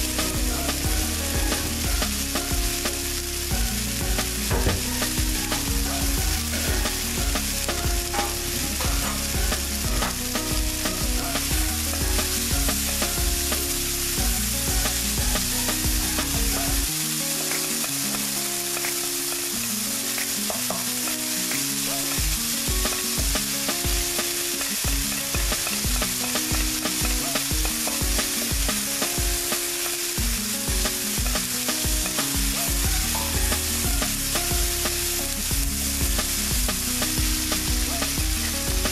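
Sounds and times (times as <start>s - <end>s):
background music with low beat: 0.0s - 16.9s, 20.2s - 38.9s
vegetables sizzling in oil: 0.0s - 38.9s.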